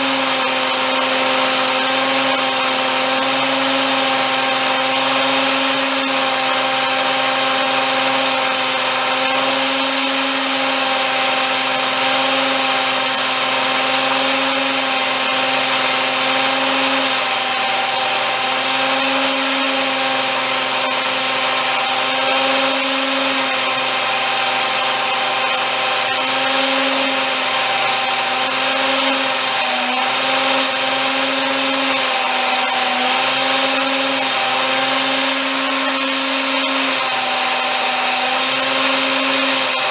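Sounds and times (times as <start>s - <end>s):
handheld power tool humming: 0.0s - 39.9s.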